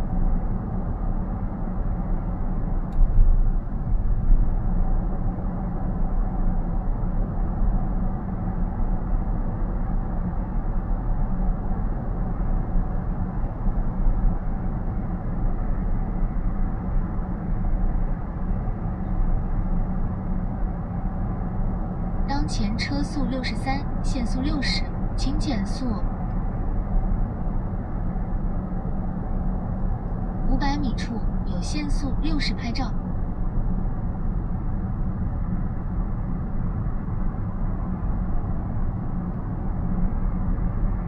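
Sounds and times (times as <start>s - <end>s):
road and tyre noise in car: 0.0s - 41.0s.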